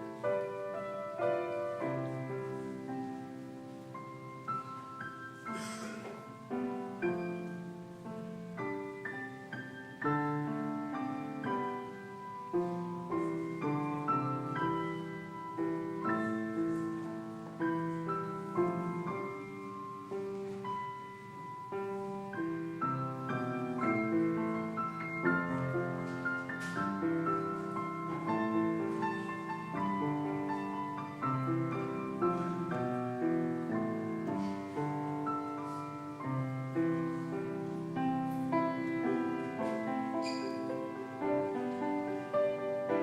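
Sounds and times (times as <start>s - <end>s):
slow gentle solo piano: 0.0s - 43.0s.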